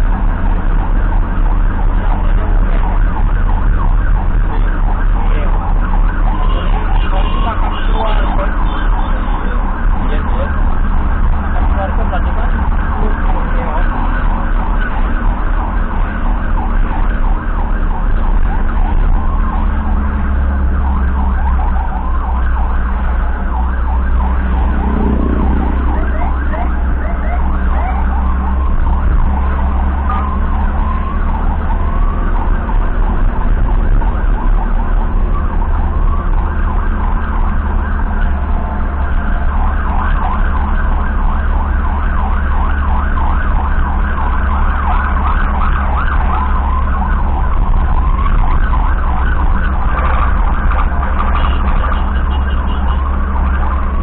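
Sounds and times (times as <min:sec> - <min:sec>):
engine and road rumble: 0:00.0 - 0:54.0
sirens yelping: 0:00.0 - 0:54.0.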